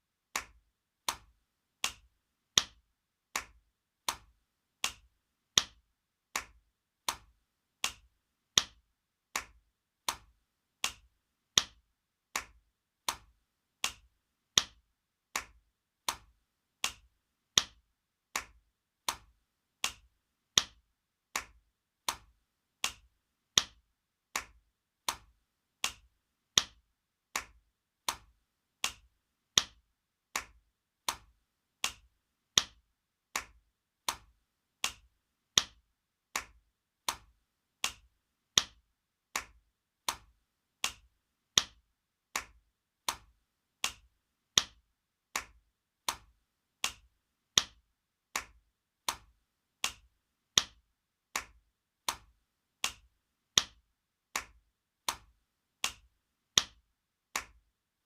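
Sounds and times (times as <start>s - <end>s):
hand slaps: 0.3s - 35.8s, 36.4s - 41.8s, 42.4s - 44.8s, 45.4s - 47.8s, 48.4s - 50.8s, 51.4s - 53.8s, 54.4s - 56.8s, 57.4s - 57.6s.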